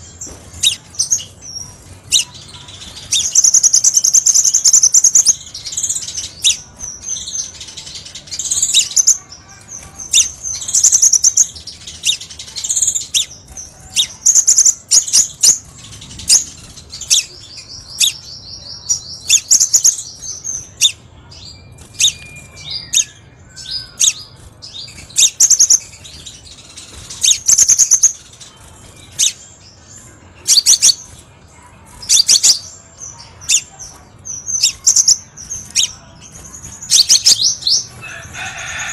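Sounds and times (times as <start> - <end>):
sunbird chirps and trill: 0.0 - 38.9.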